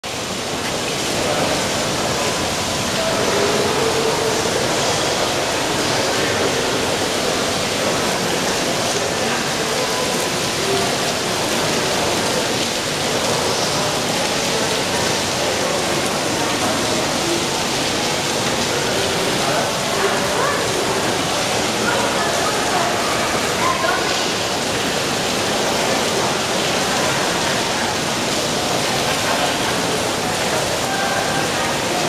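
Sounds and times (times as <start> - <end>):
water cascading down wall: 0.0 - 32.0.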